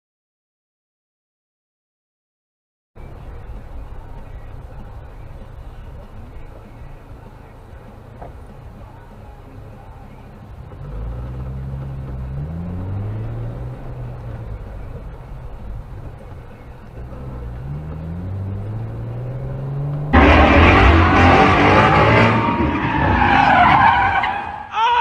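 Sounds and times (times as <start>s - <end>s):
car engine accelerating: 3.0s - 24.7s.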